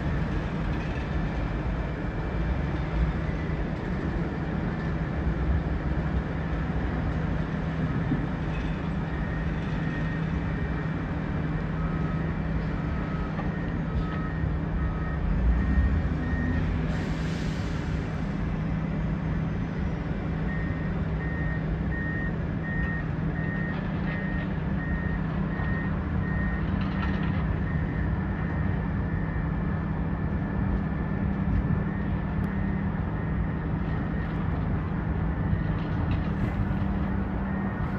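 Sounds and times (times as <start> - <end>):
heavy diesel machinery drone: 0.0 - 37.9.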